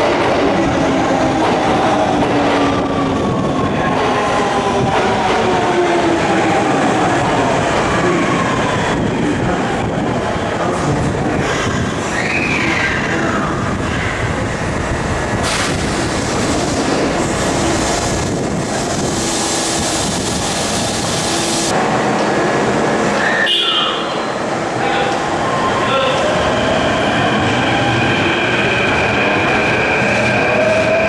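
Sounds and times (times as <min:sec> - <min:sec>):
subway train wheel and motor noise: 0:00.0 - 0:31.0.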